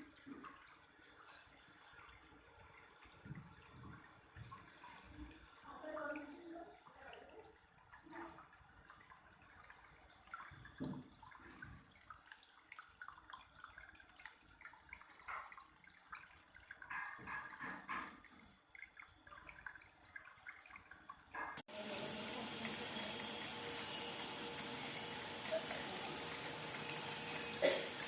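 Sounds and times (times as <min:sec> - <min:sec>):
water fountain trickling: 0:00.0 - 0:28.0.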